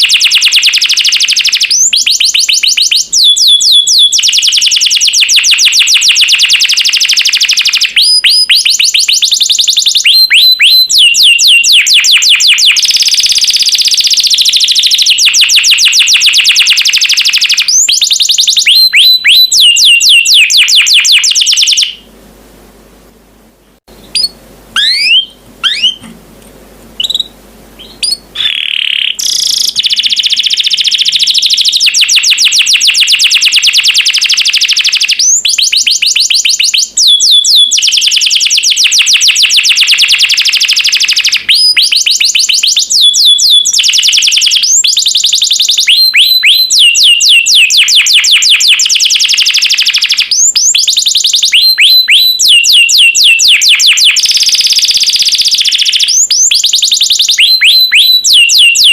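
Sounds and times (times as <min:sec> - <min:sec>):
canary singing in fast trills: 0:00.0 - 0:22.1, 0:23.9 - 0:26.1, 0:27.0 - 0:58.9.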